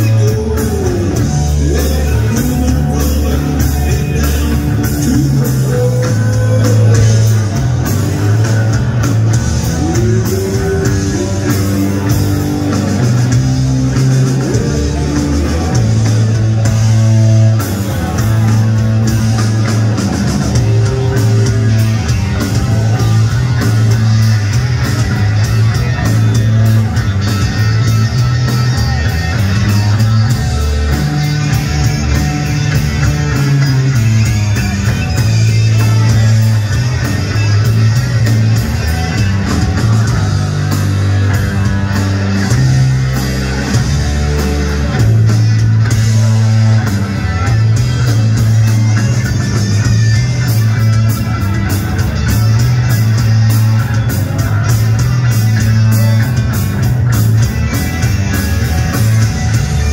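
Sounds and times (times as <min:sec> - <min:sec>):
drum kit: 0:00.0 - 0:59.9
electric bass line: 0:00.0 - 0:59.9
electric guitar: 0:00.0 - 0:59.9.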